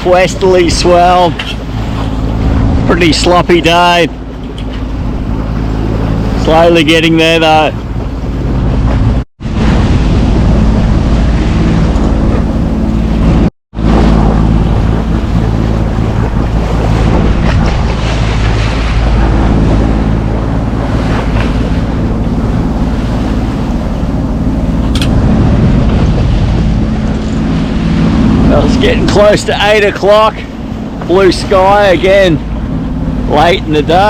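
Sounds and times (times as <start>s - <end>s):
low engine drone: 0.0s - 34.0s
water rushing past hull: 0.0s - 34.0s
wind buffeting microphone: 0.0s - 34.0s.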